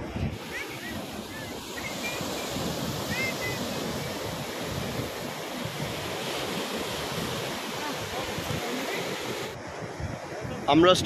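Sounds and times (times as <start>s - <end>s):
sea surf breaking on beach: 0.0s - 11.0s
wind on microphone: 0.0s - 11.0s.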